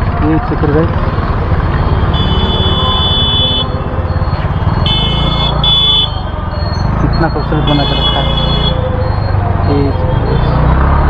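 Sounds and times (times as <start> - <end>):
vehicle rumble in traffic: 0.0 - 11.0
high electronic beeping: 0.8 - 10.9.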